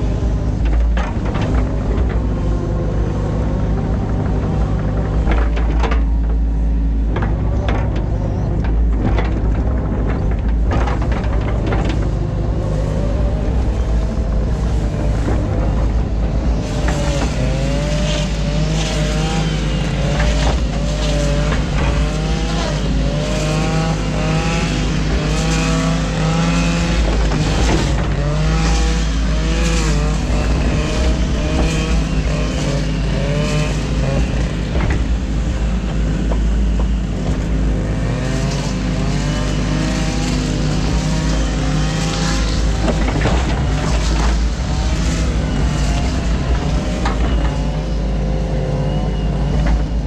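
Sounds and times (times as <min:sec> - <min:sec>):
diesel engine hum: 0:00.0 - 0:50.0
hydraulic whine: 0:00.0 - 0:50.0.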